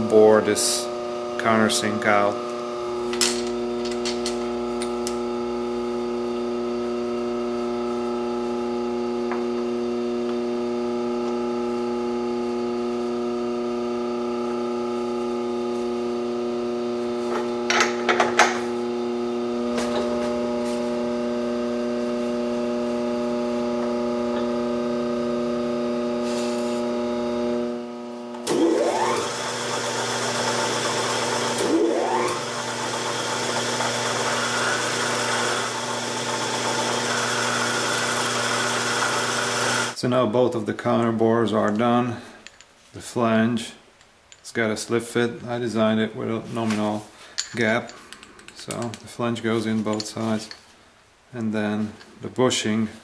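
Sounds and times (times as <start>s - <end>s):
electric machinery hum: 0.0s - 53.0s.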